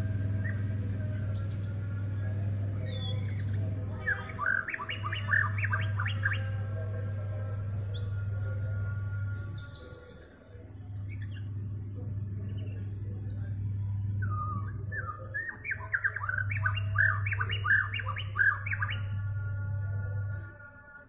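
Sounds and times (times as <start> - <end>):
steady low hum: 0.0 - 21.0
bird singing whistled notes: 0.4 - 19.5.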